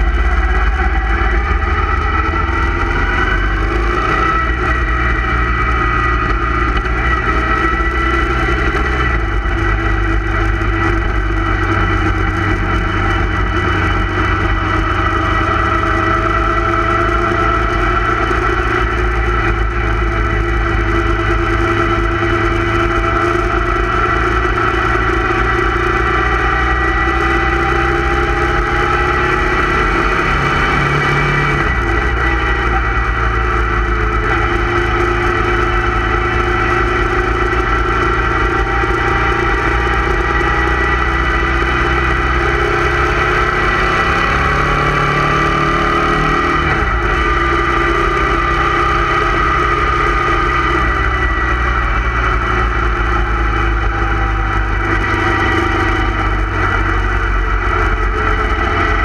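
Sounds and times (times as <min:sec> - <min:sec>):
constant low rumble: 0:00.0 - 0:59.0
motorcycle engine running: 0:00.0 - 0:59.0.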